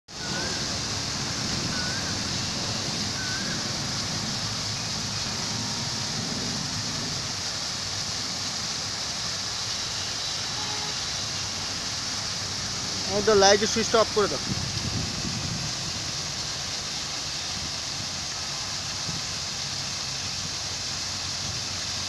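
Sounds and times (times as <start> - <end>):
fountain water splashing: 0.1 - 22.0.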